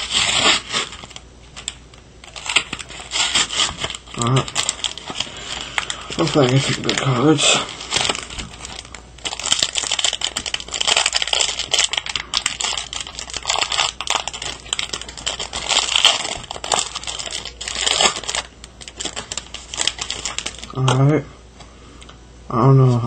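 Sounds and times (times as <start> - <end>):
foil wrapper crinkling: 0.0 - 21.1.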